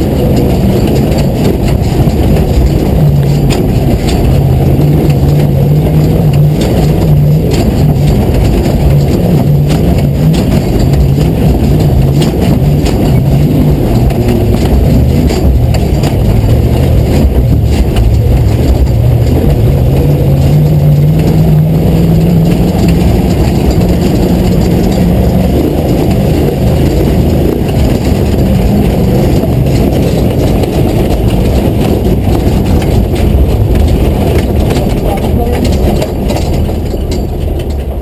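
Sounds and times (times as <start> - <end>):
dense low rumble: 0.0 - 38.0
engine running under load: 0.0 - 38.0.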